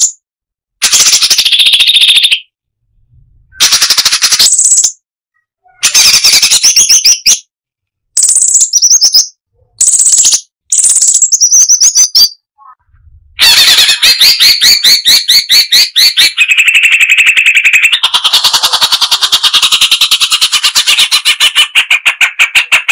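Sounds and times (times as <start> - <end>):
bird chattering song: 0.0 - 0.2, 0.8 - 2.5, 3.5 - 5.0, 5.6 - 7.5, 8.2 - 22.9.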